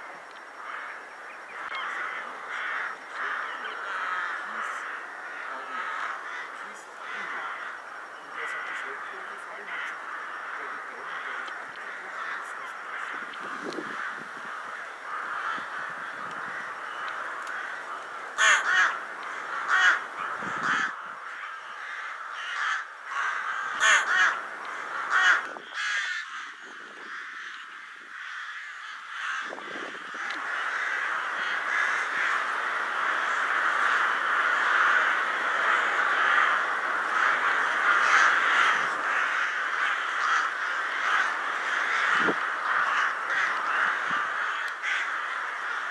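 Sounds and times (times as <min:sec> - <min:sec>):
flock of rooks cawing: 0:00.0 - 0:45.9
loud single caws close by: 0:00.0 - 0:45.9.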